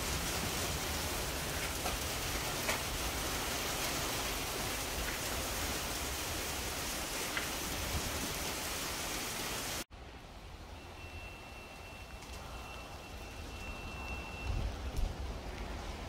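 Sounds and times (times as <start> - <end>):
heavy rain falling: 0.0 - 9.9, 12.0 - 16.0.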